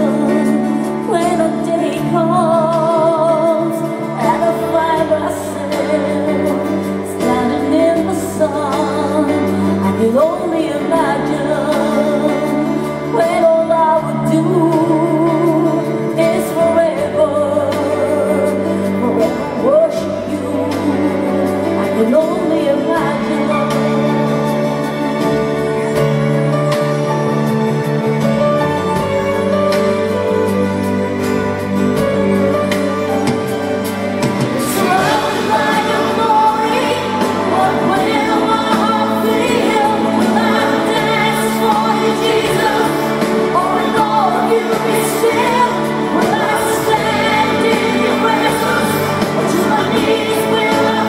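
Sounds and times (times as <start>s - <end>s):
woman singing ballad with vibrato: 0.0s - 26.1s, 34.0s - 51.0s
piano and band chords: 0.0s - 51.0s.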